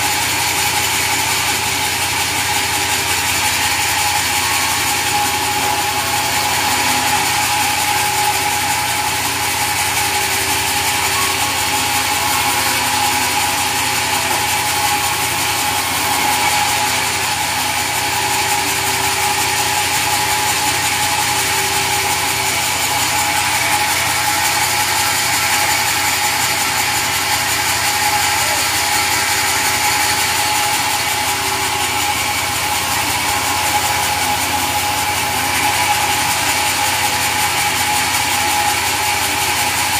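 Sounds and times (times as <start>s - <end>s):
sawmill machinery whine: 0.0s - 39.9s.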